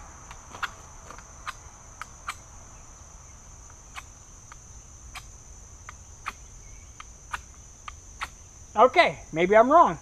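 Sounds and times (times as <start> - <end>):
high insect trill: 0.0 - 10.0.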